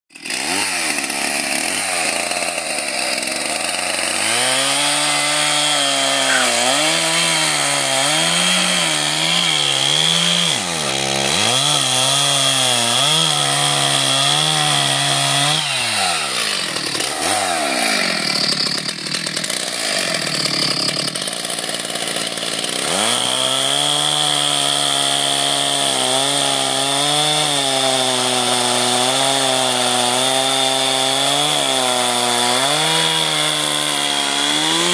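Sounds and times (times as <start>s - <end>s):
chainsaw cutting logs: 0.1s - 34.9s.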